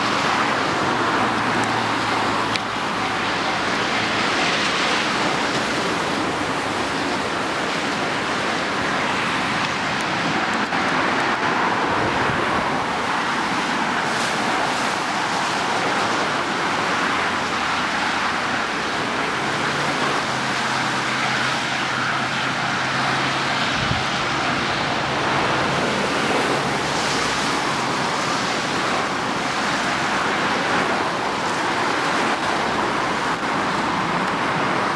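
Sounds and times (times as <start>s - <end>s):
road traffic roar: 0.0s - 34.9s.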